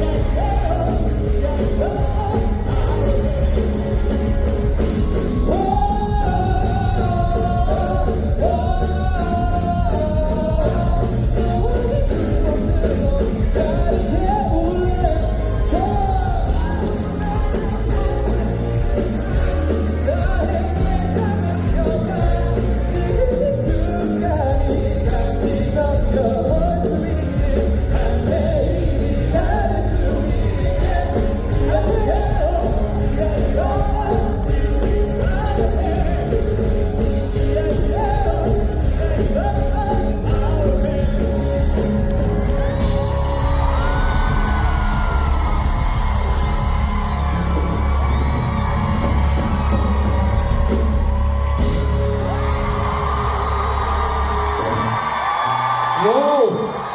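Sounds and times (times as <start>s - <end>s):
lead vocal singing: 0.0s - 56.9s
pop-rock band playing: 0.0s - 56.9s.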